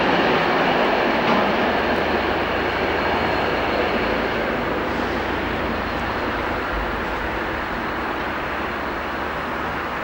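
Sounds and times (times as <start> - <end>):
diesel train rumbling past: 0.0 - 10.0.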